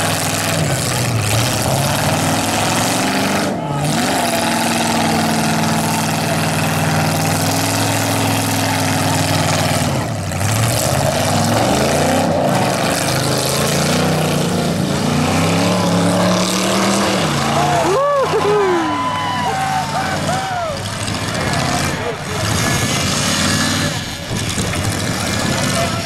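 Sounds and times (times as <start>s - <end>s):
car engines running hard: 0.0s - 26.0s.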